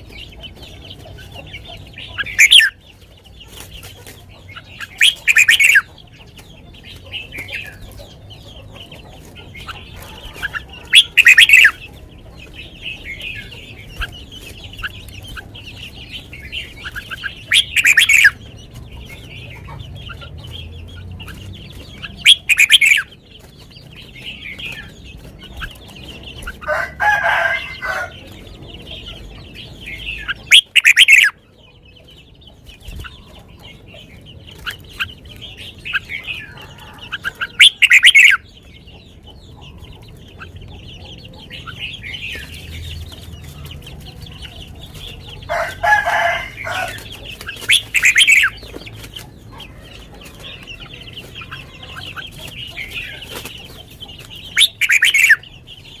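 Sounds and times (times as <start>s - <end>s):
bulbul singing sweet phrases: 0.0s - 56.0s.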